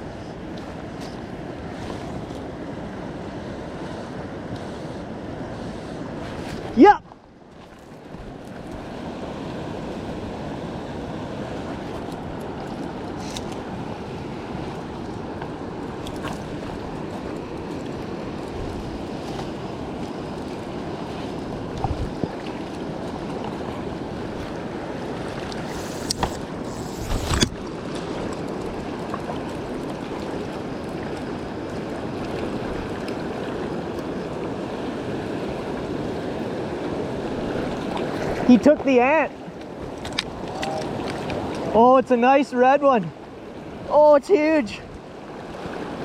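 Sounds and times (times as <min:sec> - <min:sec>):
river water flowing: 0:00.0 - 0:46.0.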